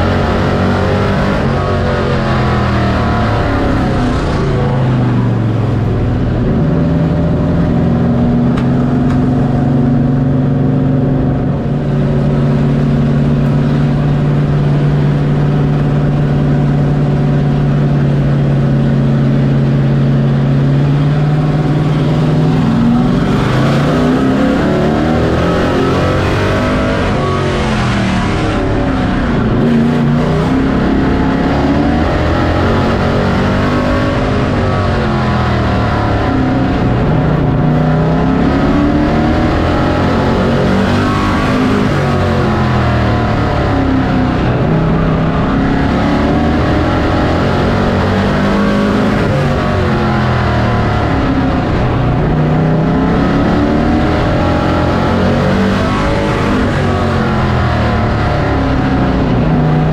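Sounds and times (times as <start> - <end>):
race truck engine revving: 0.0 - 59.9.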